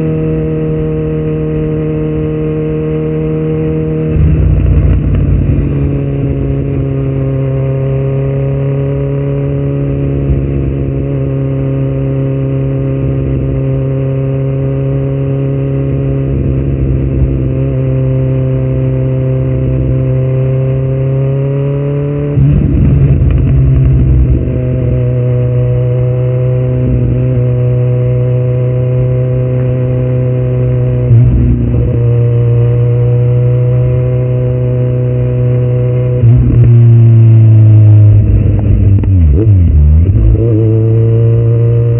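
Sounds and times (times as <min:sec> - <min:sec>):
loud motorcycle engine running: 0:00.0 - 0:41.9.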